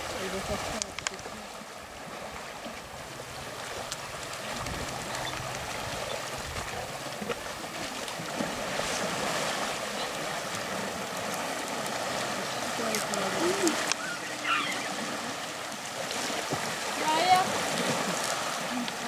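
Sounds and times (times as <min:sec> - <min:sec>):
elephants splashing in water: 0:00.0 - 0:19.0
river current rushing: 0:00.0 - 0:19.0.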